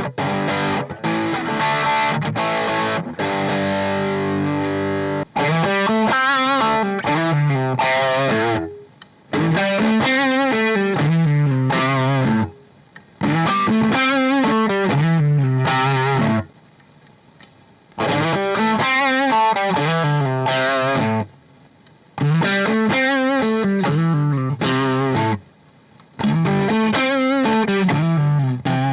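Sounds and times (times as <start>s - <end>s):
distorted electric guitar: 0.0s - 16.6s, 18.0s - 21.4s, 22.2s - 25.5s, 26.2s - 28.9s.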